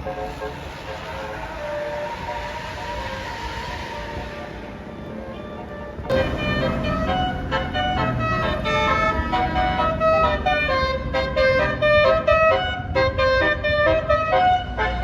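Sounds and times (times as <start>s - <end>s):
bus multi-tone horn tune: 0.0s - 15.0s
low engine rumble: 0.0s - 15.0s.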